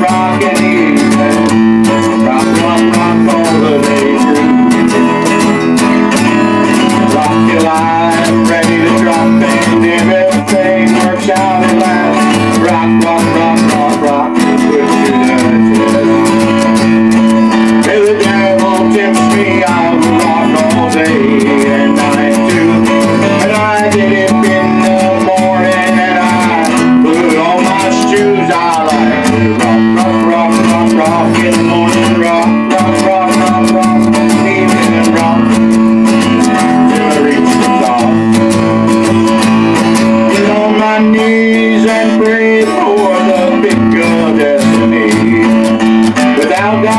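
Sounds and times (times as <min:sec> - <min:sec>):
acoustic guitar strumming: 0:00.0 - 0:46.9.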